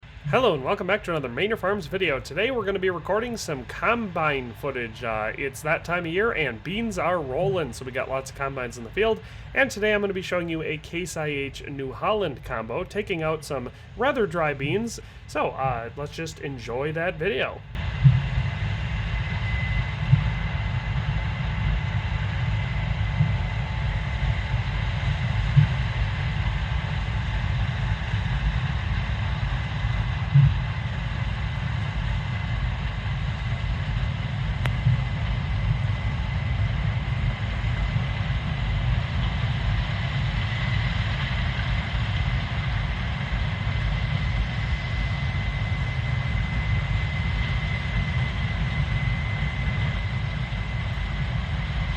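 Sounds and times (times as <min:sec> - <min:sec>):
combine harvester rumble: 0:00.0 - 0:51.9
high whine: 0:00.0 - 0:51.9.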